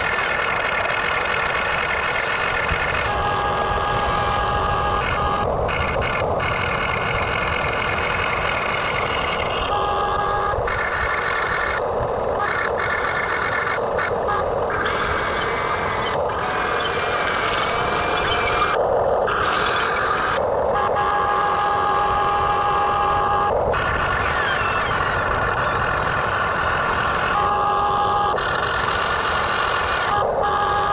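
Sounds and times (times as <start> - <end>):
high whining tones: 0.0 - 30.9
machinery rumbling: 0.0 - 30.9.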